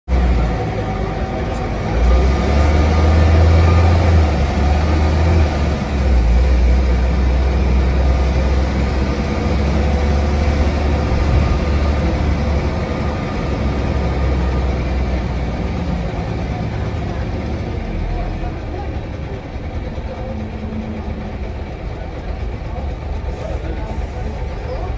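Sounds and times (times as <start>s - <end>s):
bus diesel engine rumble: 0.0s - 24.9s.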